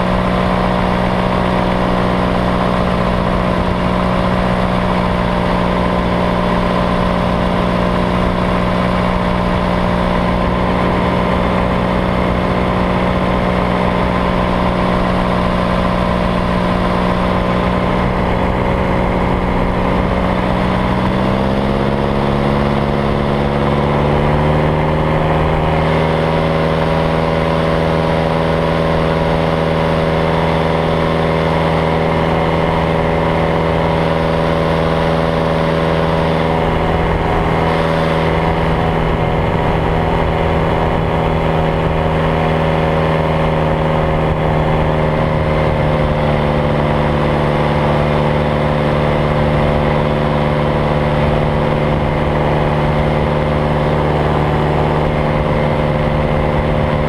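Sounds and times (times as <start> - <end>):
paramotor engine droning: 0.0 - 57.0.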